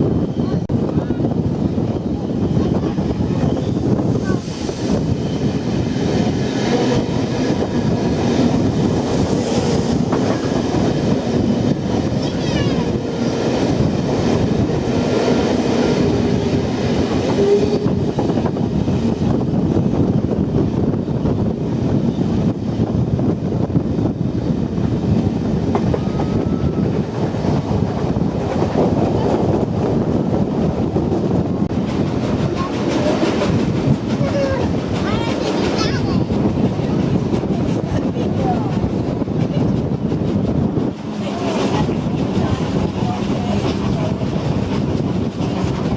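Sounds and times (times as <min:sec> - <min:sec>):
train wheels clickety-clack: 0:02.5 - 0:45.9.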